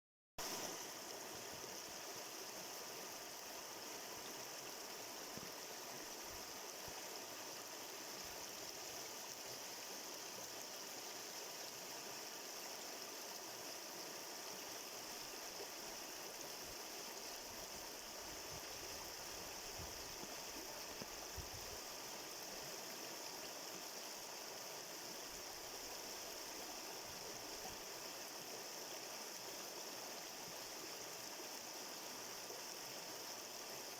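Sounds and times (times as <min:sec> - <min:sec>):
small stream rushing and trickling: 0:00.4 - 0:33.9.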